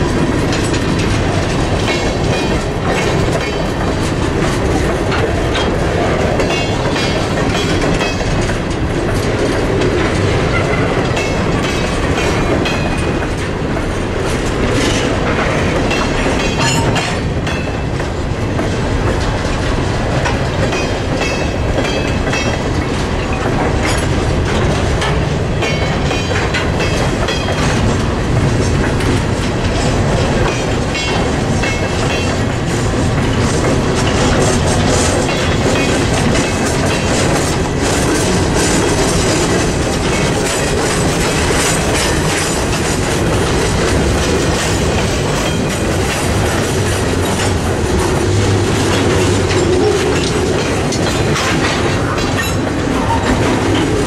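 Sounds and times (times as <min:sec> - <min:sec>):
train wheels clacking on rails: 0:00.0 - 0:54.0.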